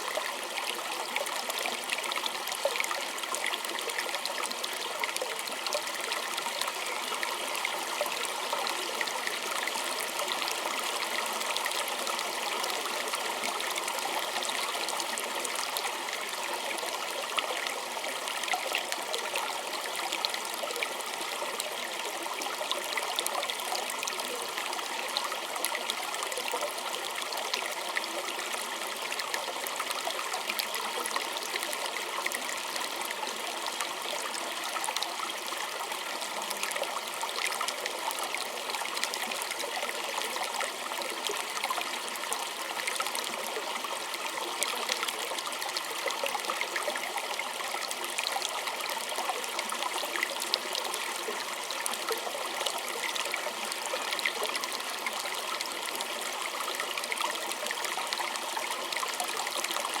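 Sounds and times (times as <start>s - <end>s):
creek babbling over stones: 0.0s - 60.0s.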